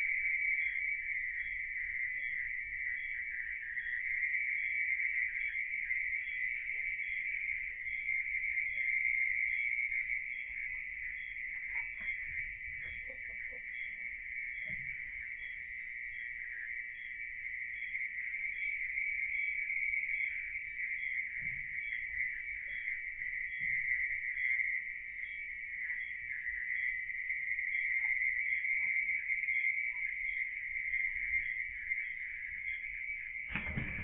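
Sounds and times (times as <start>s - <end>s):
night insects chorus: 0.0s - 34.0s.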